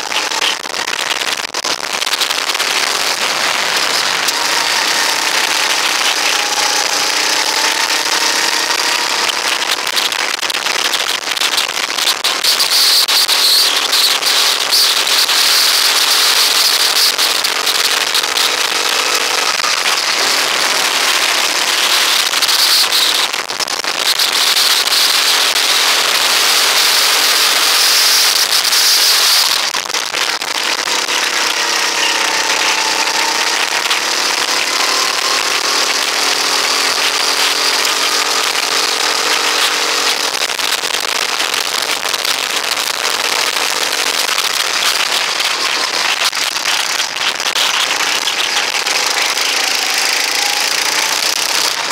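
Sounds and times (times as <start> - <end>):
constant crackling noise: 0.0 - 51.9
go-kart engine revving: 0.0 - 51.9.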